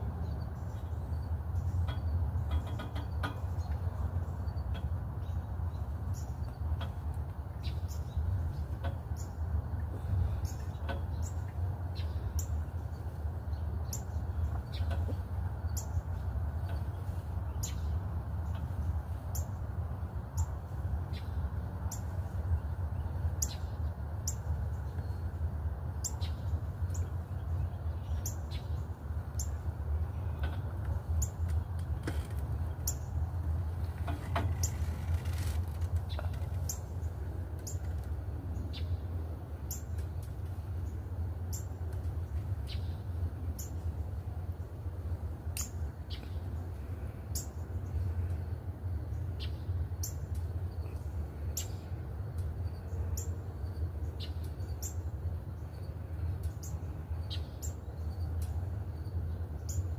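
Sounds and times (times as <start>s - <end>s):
birds chirping: 0.0s - 59.9s
steady low rumble: 0.0s - 59.9s.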